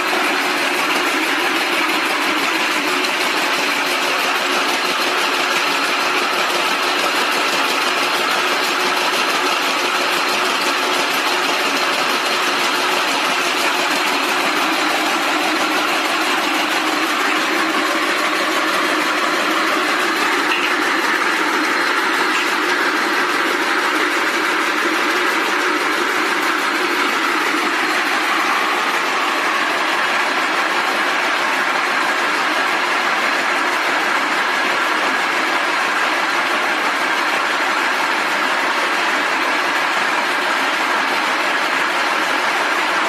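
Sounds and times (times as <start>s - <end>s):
braiding machines clattering: 0.0s - 43.0s.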